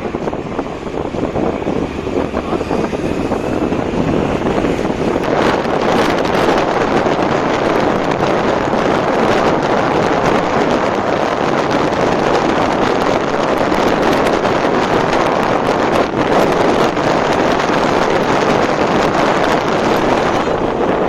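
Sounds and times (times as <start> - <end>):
road and engine noise: 0.0 - 21.0
wind buffeting microphone: 0.0 - 21.0.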